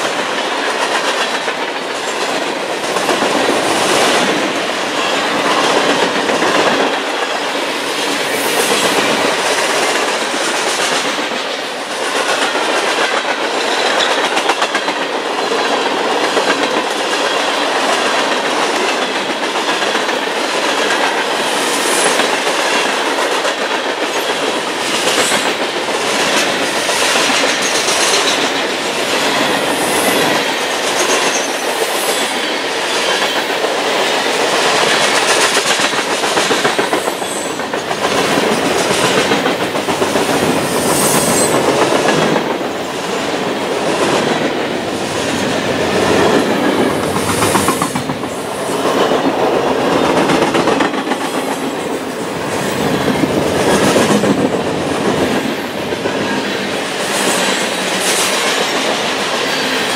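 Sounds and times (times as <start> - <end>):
freight train wheels clacking on rail: 0.0 - 59.9.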